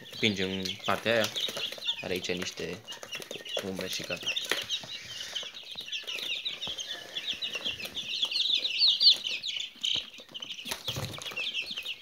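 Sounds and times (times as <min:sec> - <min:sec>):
quail chicks peeping: 0:00.0 - 0:12.0.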